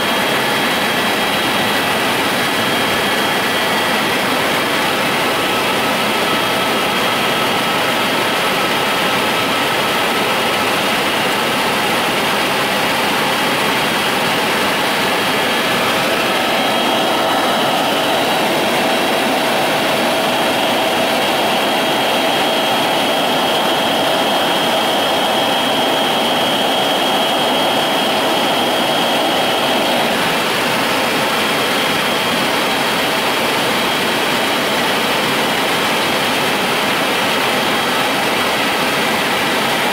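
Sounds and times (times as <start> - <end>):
rushing noise: 0.0 - 35.4
loud engine drone: 0.0 - 39.9.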